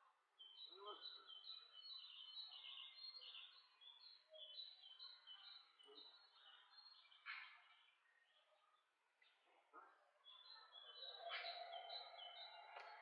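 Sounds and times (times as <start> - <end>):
bird chirping: 0.4 - 8.4, 10.3 - 13.0.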